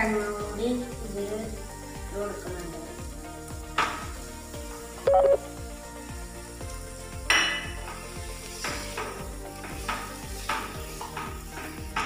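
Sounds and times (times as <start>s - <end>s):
light sizzle: 0.0s - 12.0s.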